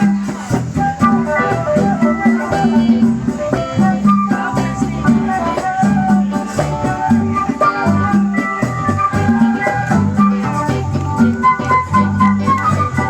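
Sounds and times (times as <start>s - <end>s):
live band playing instrumental music: 0.0s - 13.0s.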